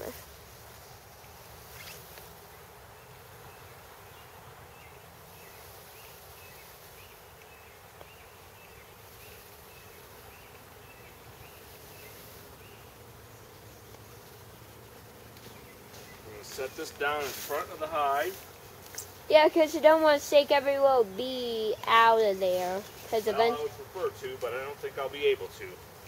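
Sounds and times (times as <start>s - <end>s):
bees buzzing hum: 0.0s - 26.0s.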